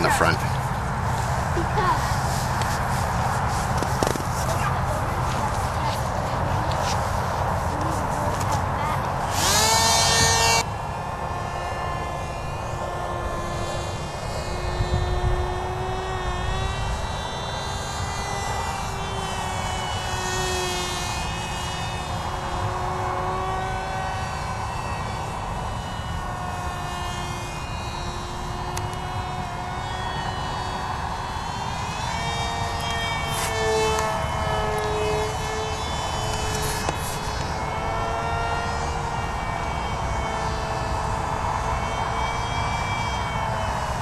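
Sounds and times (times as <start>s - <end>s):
model plane motor whining: 0.0s - 44.0s
wind rumble on microphone: 0.0s - 44.0s.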